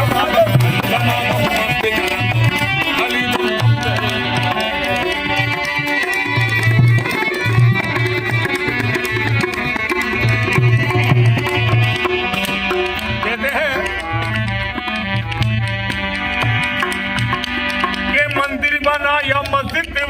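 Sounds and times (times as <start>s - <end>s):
tabla drumming: 0.0s - 20.0s.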